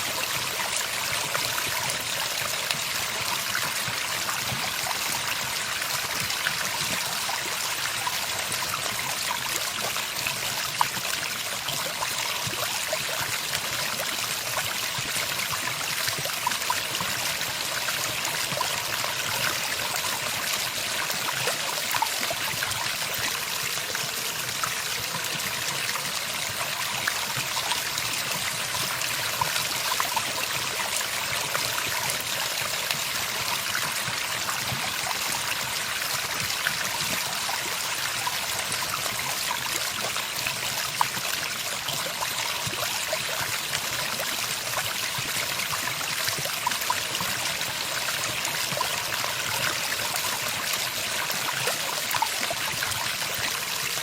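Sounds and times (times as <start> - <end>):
stream of water trickling: 0.0 - 54.0.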